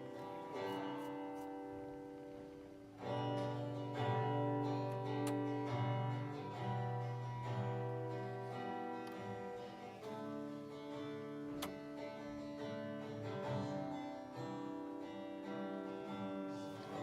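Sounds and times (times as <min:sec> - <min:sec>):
guitar playing slow chords: 0:00.0 - 0:17.0.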